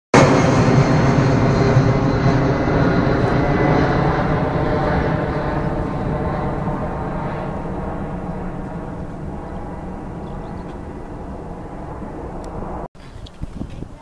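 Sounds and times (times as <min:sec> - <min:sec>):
jet engines roaring at take-off: 0:00.1 - 0:12.9.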